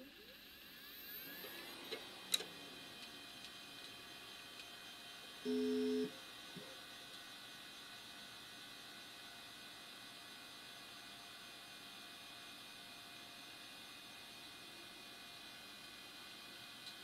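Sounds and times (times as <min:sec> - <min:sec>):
hard drive whine: 0:00.0 - 0:17.0.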